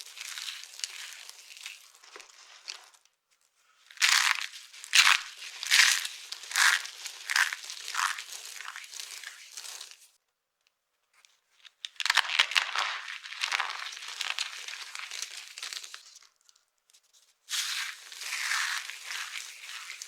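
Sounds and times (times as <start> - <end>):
dry soap crackling crunch: 0.0 - 3.1, 3.9 - 10.1, 11.6 - 16.7, 17.5 - 20.0.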